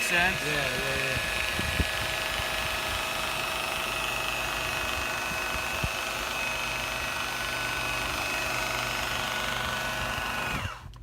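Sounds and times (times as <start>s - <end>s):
electric buffer whining: 0.0s - 11.0s.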